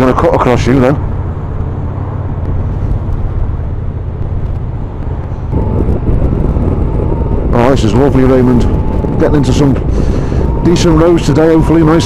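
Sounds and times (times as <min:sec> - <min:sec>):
motorcycle engine rumbling: 0:00.0 - 0:12.0
wind noise: 0:00.0 - 0:12.0.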